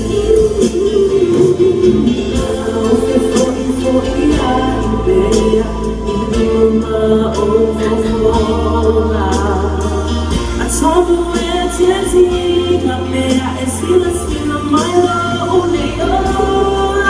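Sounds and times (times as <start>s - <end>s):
low bass accompaniment: 0.0s - 17.0s
voices singing gospel song: 0.0s - 17.0s.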